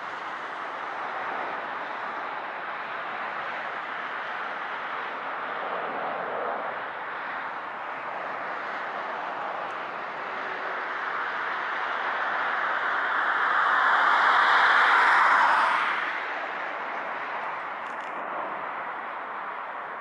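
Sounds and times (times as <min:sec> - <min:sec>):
jet engines rushing drone: 0:00.0 - 0:20.0.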